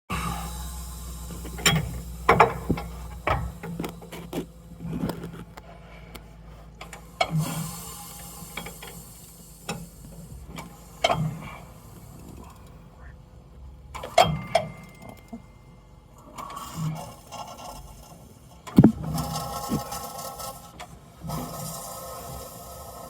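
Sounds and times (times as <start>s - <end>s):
diesel engine running rough: 0.1s - 23.0s
engine knocks and clicks: 0.2s - 23.0s.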